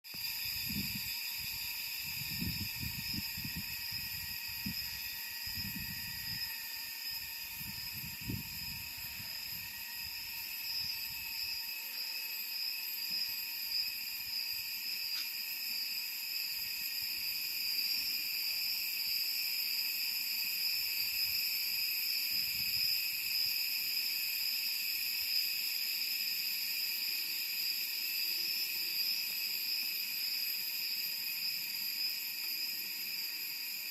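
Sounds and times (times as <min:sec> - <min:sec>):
cicadas chirping: 0:00.1 - 0:33.9.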